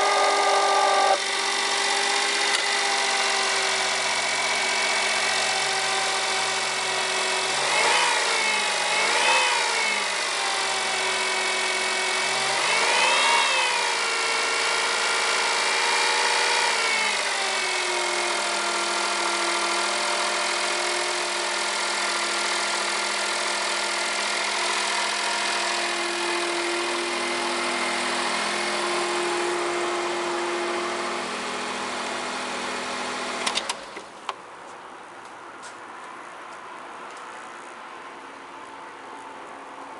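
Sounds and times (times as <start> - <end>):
engine revving and idling: 0.0 - 34.0.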